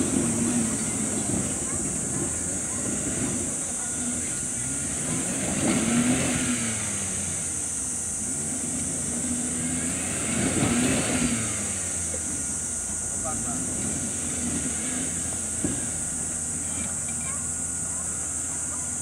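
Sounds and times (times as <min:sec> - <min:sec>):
small truck engine revving: 0:00.0 - 0:19.0.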